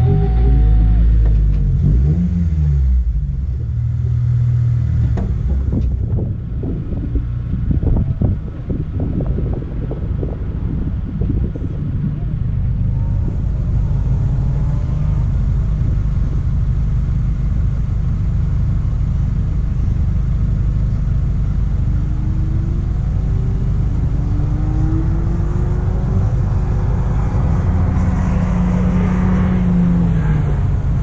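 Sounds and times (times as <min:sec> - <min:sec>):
rally car engine rumbling: 0:00.0 - 0:31.0.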